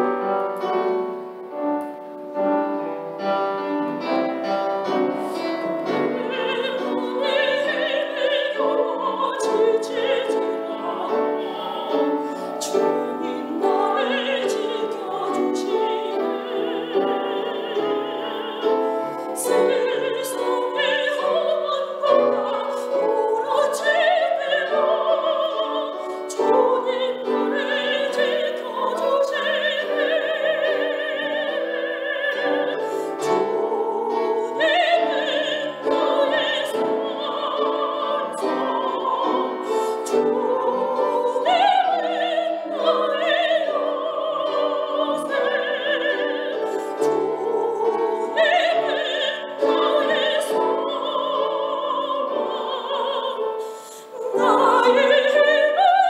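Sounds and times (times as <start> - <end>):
instrumental accompaniment: 0.0 - 56.0
woman singing operatically: 5.5 - 56.0.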